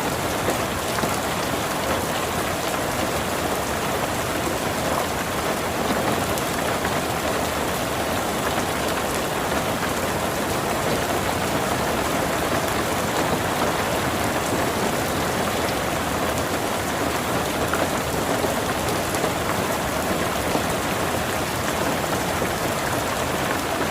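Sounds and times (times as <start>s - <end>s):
heavy rain on hard surfaces: 0.0s - 23.9s.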